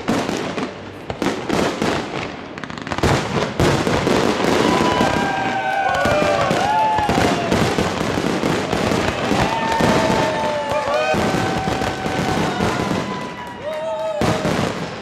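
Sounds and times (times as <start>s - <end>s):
fireworks bursting and crackling: 0.0s - 15.0s
whistling fireworks: 0.0s - 15.0s.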